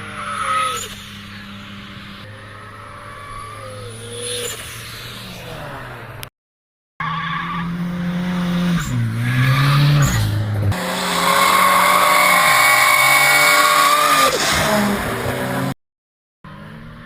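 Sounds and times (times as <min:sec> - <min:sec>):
car engine at high revs: 0:00.0 - 0:06.3, 0:07.0 - 0:15.8.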